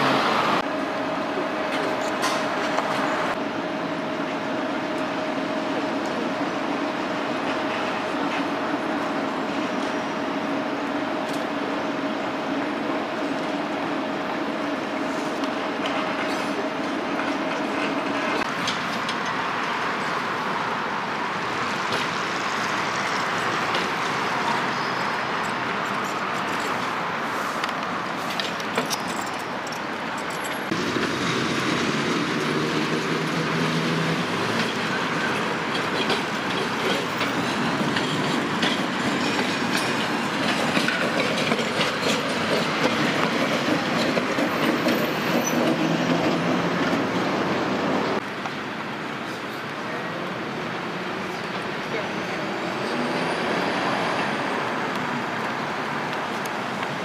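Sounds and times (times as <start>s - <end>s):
tram wheels rumbling on rails: 0.0s - 57.0s.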